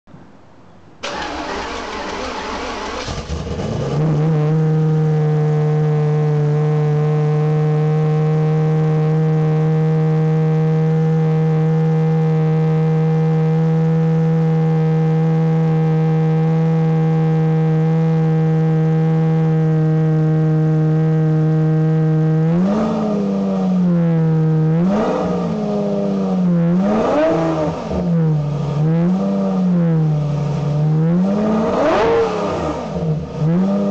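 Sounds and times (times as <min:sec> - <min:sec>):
loud car engine idling and revving: 0:01.0 - 0:33.9.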